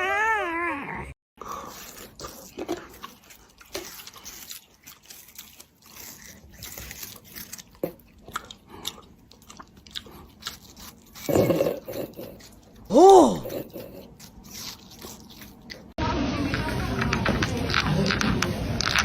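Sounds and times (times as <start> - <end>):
pet crunching and chewing: 1.4 - 19.0.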